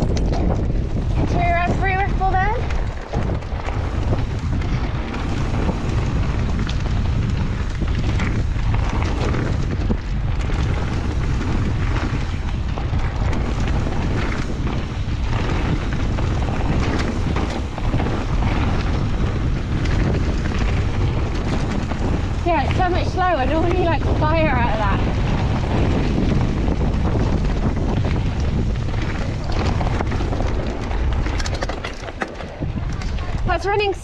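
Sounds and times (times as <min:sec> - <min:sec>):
bike tyre noise: 0:00.0 - 0:34.0
wind buffeting microphone: 0:00.0 - 0:34.0.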